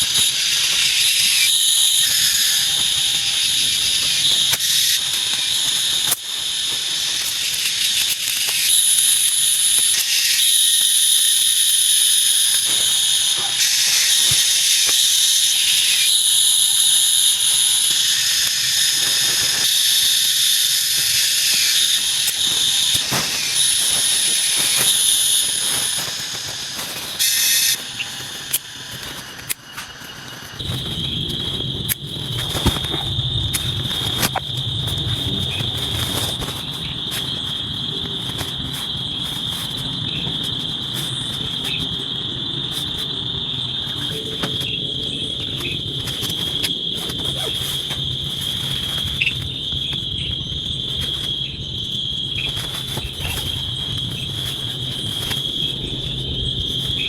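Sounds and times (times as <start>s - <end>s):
high insect trill: 0.0s - 57.0s
hiss: 0.0s - 57.0s
insects chorus: 0.0s - 57.0s.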